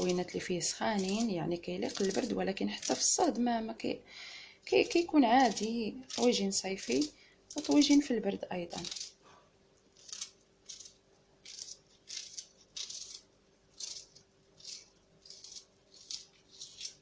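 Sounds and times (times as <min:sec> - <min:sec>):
knife slicing onion: 0:00.0 - 0:03.4, 0:04.8 - 0:09.2, 0:10.0 - 0:17.0.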